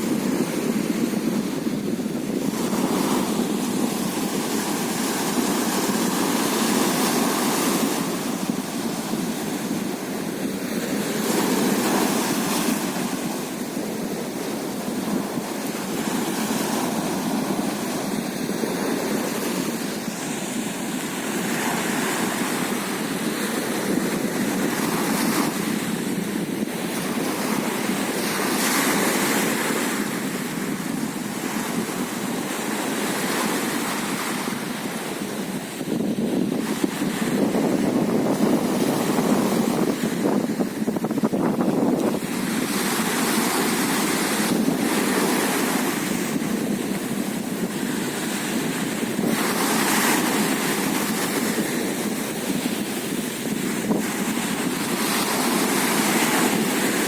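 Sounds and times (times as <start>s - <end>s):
waves breaking on shore: 0.0s - 57.0s
wind: 0.0s - 57.0s.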